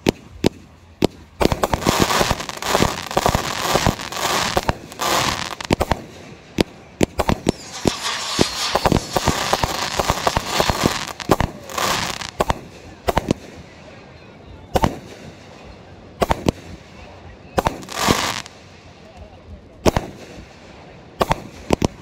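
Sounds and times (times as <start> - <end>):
fireworks bangs: 0.0 - 14.0, 14.7 - 18.6
fireworks crackling: 0.0 - 14.0, 14.7 - 19.2.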